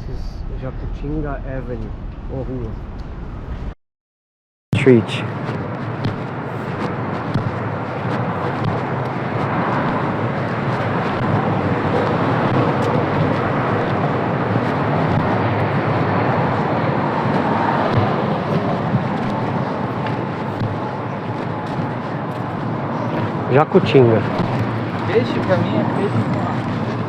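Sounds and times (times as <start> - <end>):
passing vehicles: 4.8 - 27.0.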